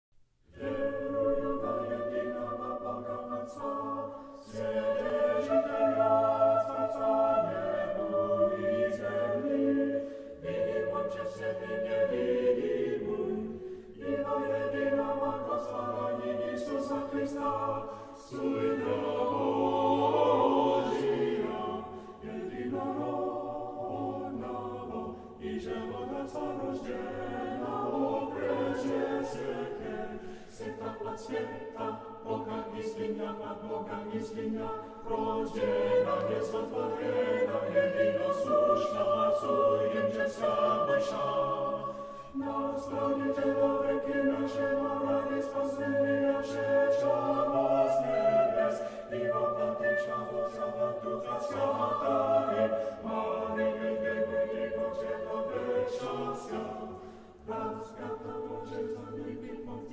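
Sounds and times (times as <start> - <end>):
choir singing sustained chords: 0.2 - 59.9.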